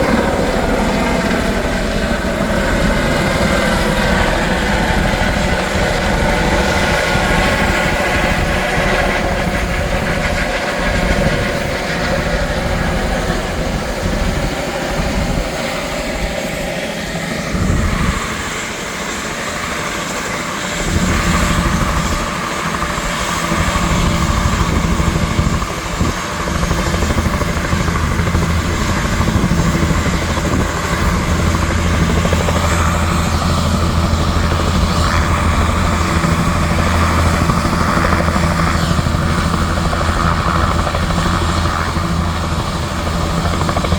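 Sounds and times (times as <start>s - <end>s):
helicopter turbine and rotor: 0.0s - 43.9s.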